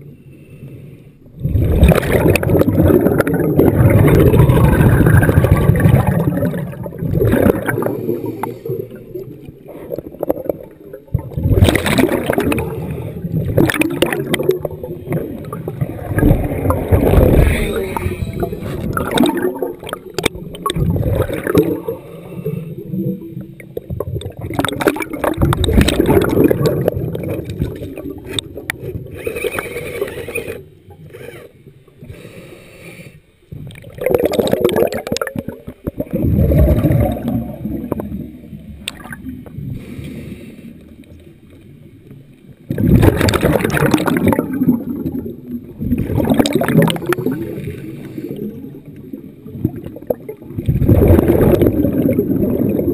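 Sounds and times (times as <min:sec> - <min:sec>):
underwater bubbling and rumble: 0:00.0 - 0:52.9.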